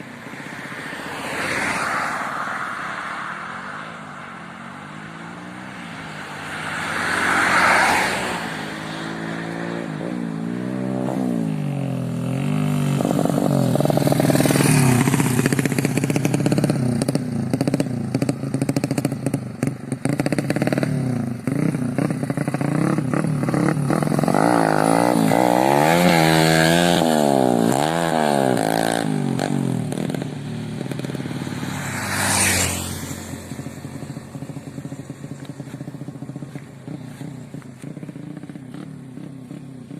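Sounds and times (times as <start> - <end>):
motorcycle engine revving: 4.8 - 39.9.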